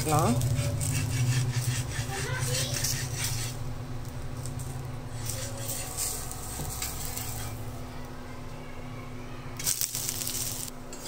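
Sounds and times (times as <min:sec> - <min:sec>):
batter sizzling on hot pan: 0:00.0 - 0:08.1, 0:09.5 - 0:11.0
steady low hum: 0:00.0 - 0:11.0.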